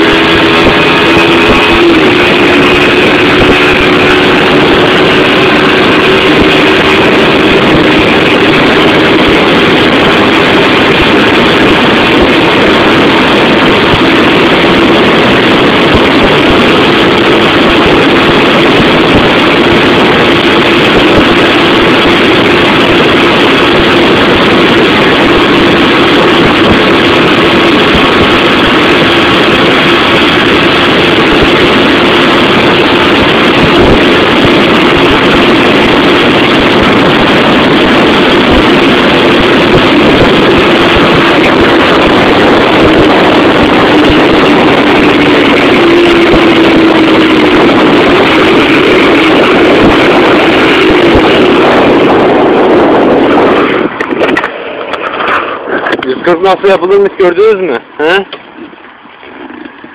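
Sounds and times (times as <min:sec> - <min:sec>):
motorcycle engine at high revs: 0:00.0 - 0:59.9
rushing wind noise: 0:00.0 - 0:59.9.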